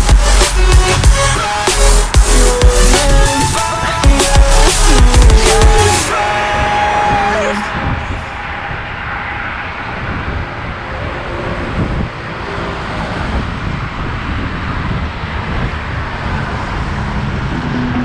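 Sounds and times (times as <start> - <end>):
road traffic noise: 0.0 - 18.0
wind rushing over microphone: 3.2 - 18.0.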